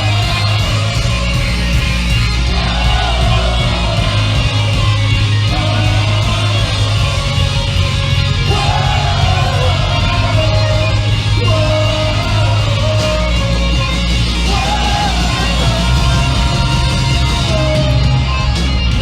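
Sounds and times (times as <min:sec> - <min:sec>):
live punk band playing: 0:00.0 - 0:19.0
melodic guitar line: 0:00.0 - 0:19.0.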